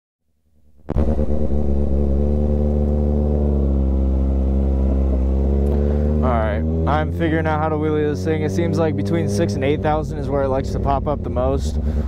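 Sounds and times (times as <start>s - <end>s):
motorcycle engine running: 0.6s - 12.0s.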